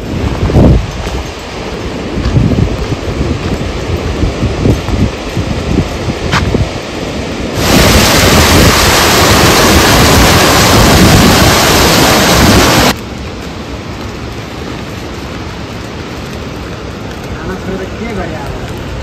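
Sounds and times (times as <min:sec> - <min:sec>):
heavy rain: 0:00.0 - 0:19.0
light rainfall: 0:00.0 - 0:19.0.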